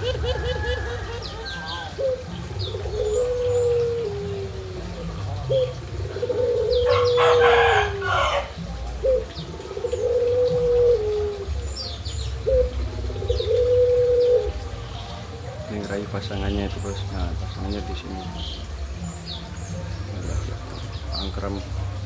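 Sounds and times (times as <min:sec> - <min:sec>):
long low bird calls: 0:00.0 - 0:22.0.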